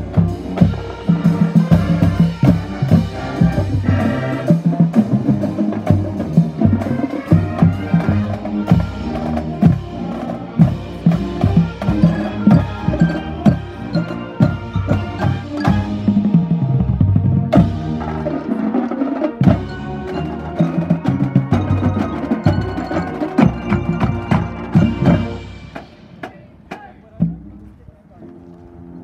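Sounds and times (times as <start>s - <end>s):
marching band playing: 0.0s - 29.0s.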